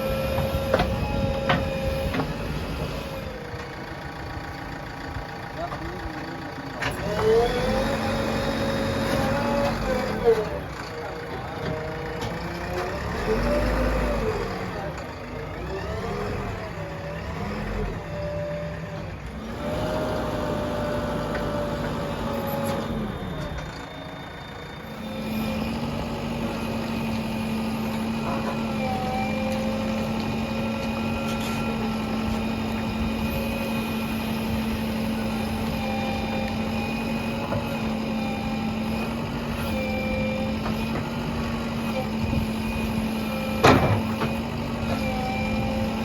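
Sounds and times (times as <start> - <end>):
diesel engine revving: 0.0 - 46.0.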